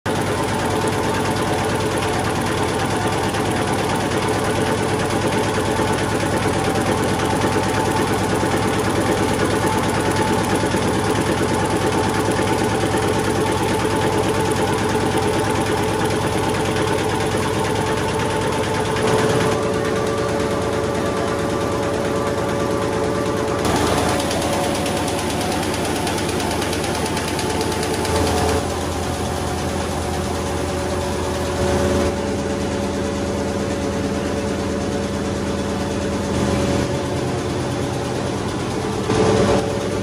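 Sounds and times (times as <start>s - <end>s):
machine clattering and humming: 0.1s - 40.0s.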